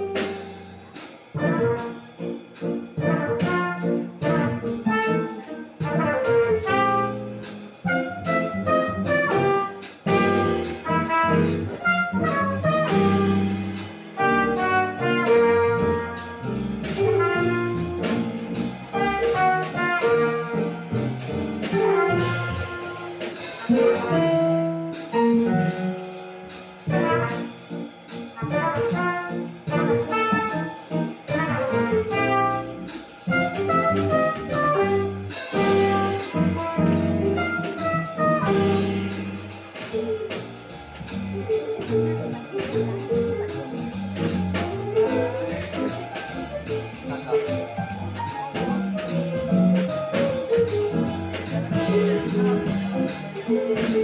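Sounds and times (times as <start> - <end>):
drum kit with ride cymbal: 0.0 - 54.0
upright double bass: 0.0 - 54.0
trumpet: 1.3 - 2.1, 3.0 - 25.5, 26.9 - 27.6, 28.4 - 40.4, 44.2 - 49.1, 49.8 - 54.0.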